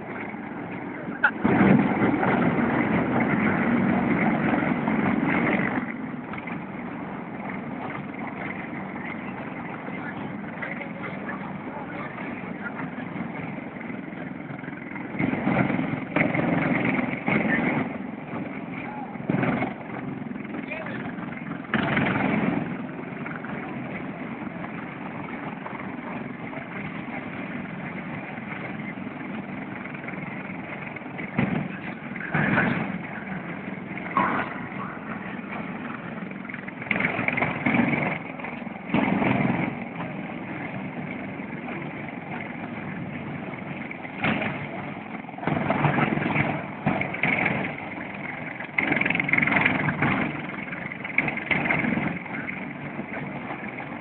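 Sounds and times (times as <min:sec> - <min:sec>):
engine noise: 0:00.0 - 0:54.0.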